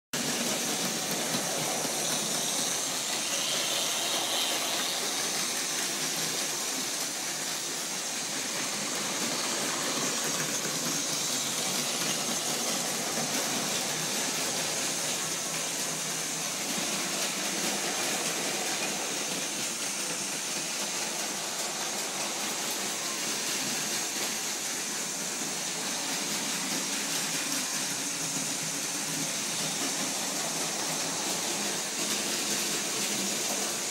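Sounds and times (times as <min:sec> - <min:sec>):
toy train motors whirring: 0:00.2 - 0:33.9
toy train wheels rattling on track: 0:00.2 - 0:33.9.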